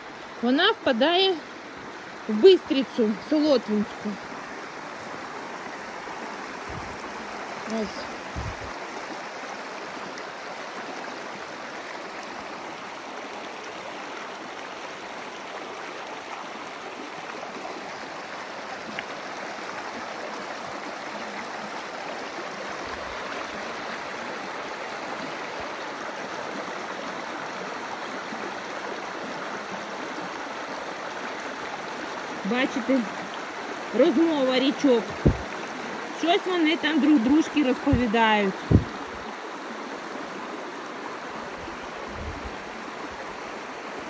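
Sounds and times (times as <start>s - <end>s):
stream rushing over stones: 0.0s - 44.0s.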